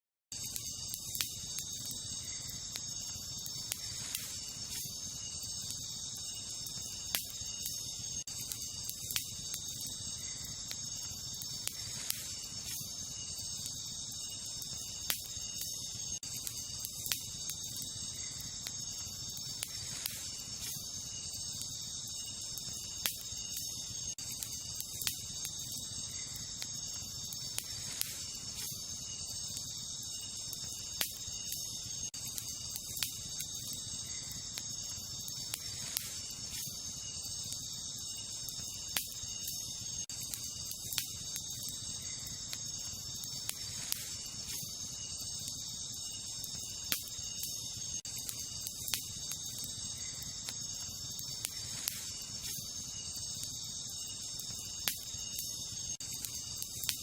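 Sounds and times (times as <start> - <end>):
campfire crackling and popping: 0.3 - 57.0
crickets chirping: 0.3 - 57.0.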